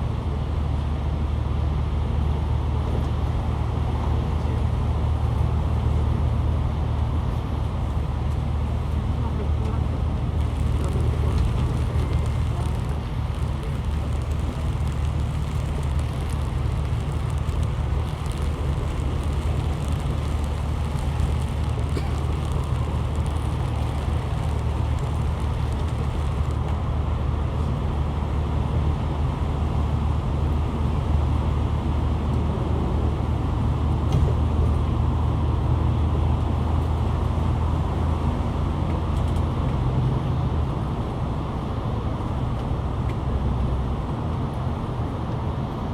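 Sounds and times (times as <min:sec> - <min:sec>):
constant low hum: 0:00.0 - 0:45.9
vehicle drone and road noise: 0:00.0 - 0:45.9.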